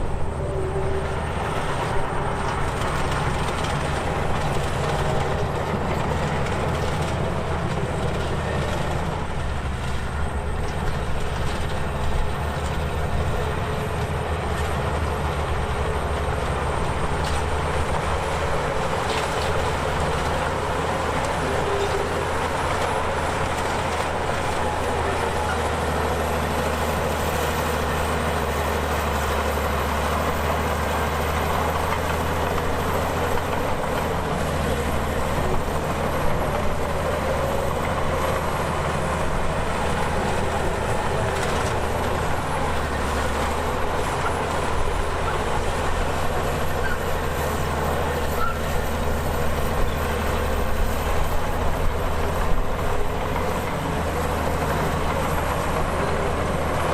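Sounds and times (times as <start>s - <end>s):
bulldozer diesel engine running: 0.0s - 56.9s
steel tracks clanking and squeaking: 0.0s - 56.9s.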